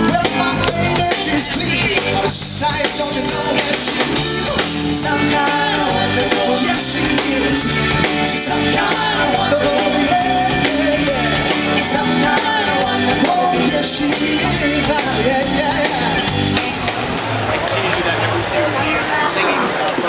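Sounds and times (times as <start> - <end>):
live band playing soul-pop: 0.0 - 19.9.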